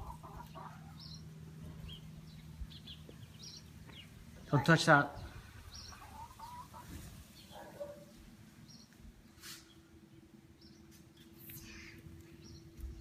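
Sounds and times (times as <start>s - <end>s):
bird calls and chirps: 0.0s - 9.0s, 10.6s - 13.0s.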